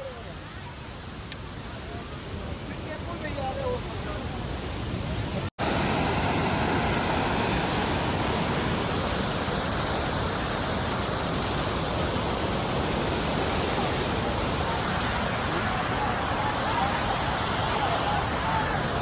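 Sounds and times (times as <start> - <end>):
rushing mountain stream: 0.0 - 19.0.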